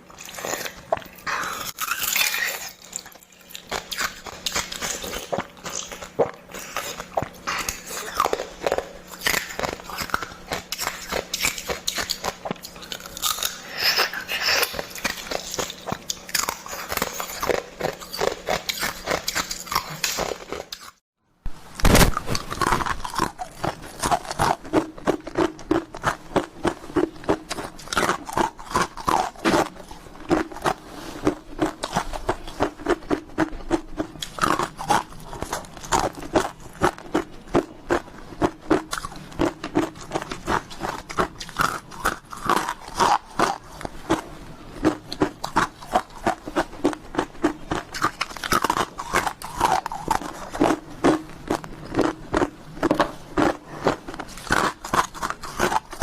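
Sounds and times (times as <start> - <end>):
ice being chewed: 0.0 - 21.0, 22.1 - 56.0.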